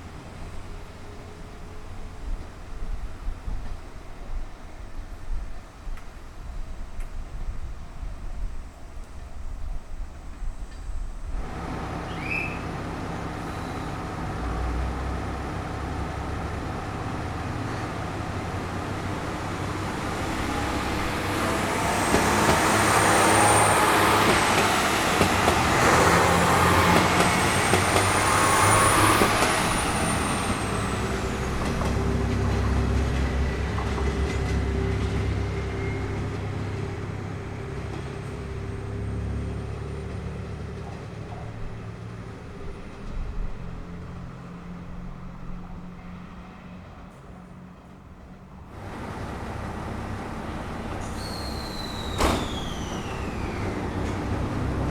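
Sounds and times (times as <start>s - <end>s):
diesel train engines pulling away: 0.0s - 6.4s, 8.0s - 54.9s.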